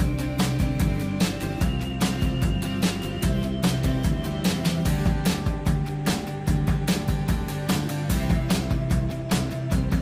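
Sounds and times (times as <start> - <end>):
music with a fast beat: 0.0 - 10.0.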